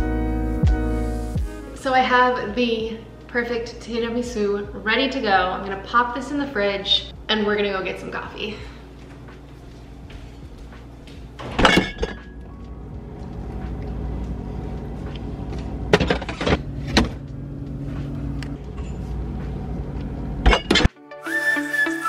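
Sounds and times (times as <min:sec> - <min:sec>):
steady low hum: 0:00.0 - 0:20.9
music: 0:00.0 - 0:22.0.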